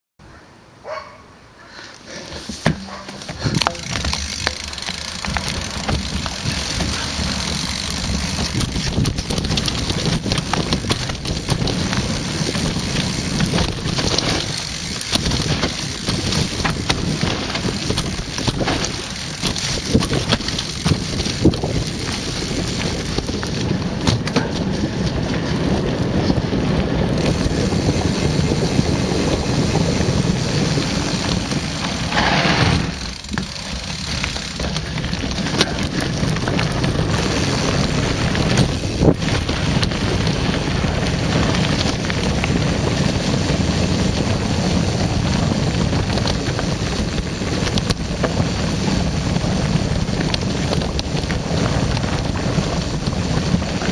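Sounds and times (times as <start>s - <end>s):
bike rattling over dirt and stones: 2.0s - 53.9s
wind buffeting microphone: 2.3s - 53.9s.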